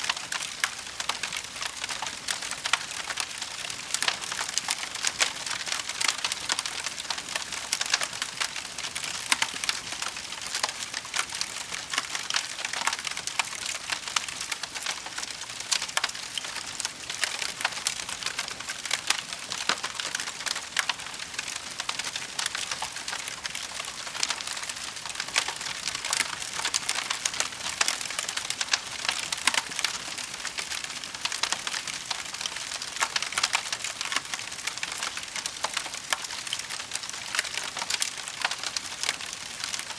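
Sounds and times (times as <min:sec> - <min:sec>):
wood fire snaps and pops: 0:00.0 - 0:39.9.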